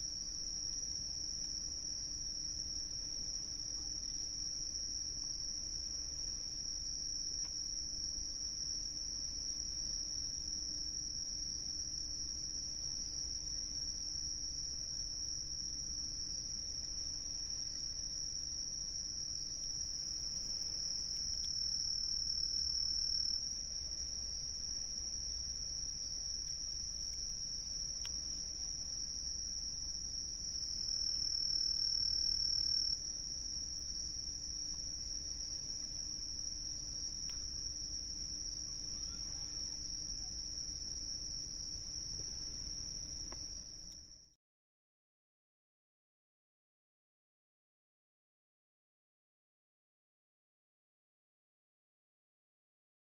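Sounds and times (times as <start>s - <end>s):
crickets chirping: 0.0s - 44.4s.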